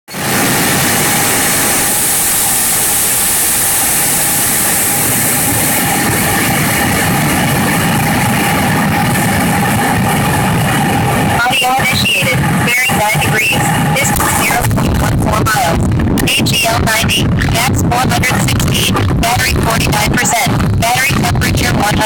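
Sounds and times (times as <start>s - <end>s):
road and wind noise: 0.1s - 22.0s
car engine running: 0.2s - 22.0s.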